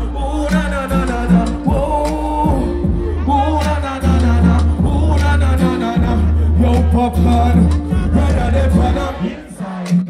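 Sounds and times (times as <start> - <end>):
dancehall beat with deep bass: 0.0 - 10.0
man singing into microphone: 0.0 - 10.0.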